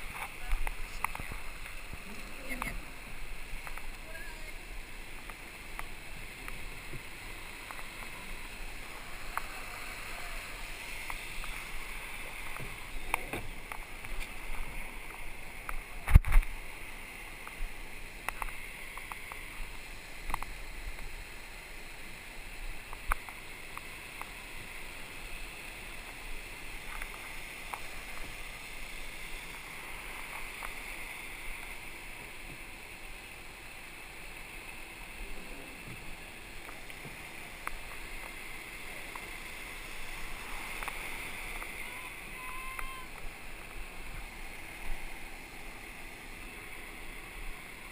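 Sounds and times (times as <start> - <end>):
water rushing along boat hull: 0.0 - 47.9.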